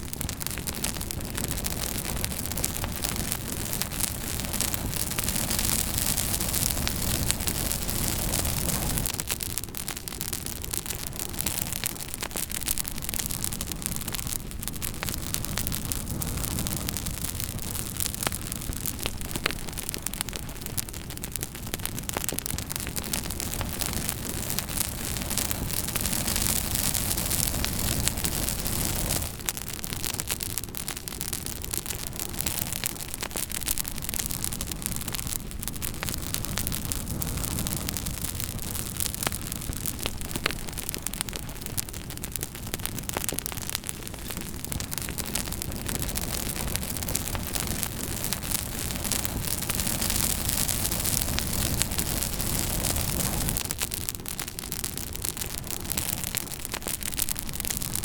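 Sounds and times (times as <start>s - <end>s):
campfire wood crackling and popping: 0.0s - 58.0s
fire rushing: 0.0s - 58.0s.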